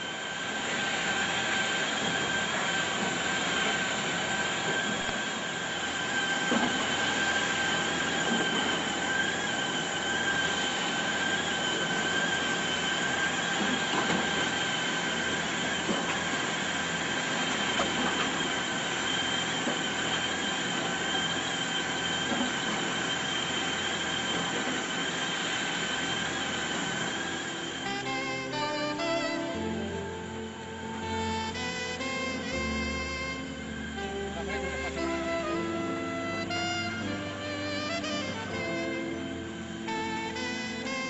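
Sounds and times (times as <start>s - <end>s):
high-pitched machine whine: 0.0s - 41.0s
mill machinery running: 0.0s - 41.0s.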